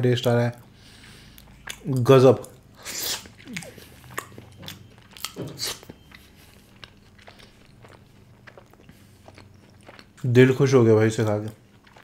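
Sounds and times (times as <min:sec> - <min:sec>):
person chewing wetly: 0:00.5 - 0:12.0.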